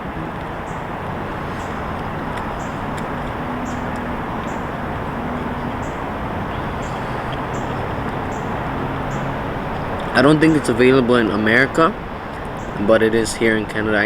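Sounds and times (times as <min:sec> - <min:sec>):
light high ticks: 0:00.0 - 0:13.0
background rumble and hiss: 0:00.0 - 0:14.0
faint low hum: 0:00.0 - 0:14.0.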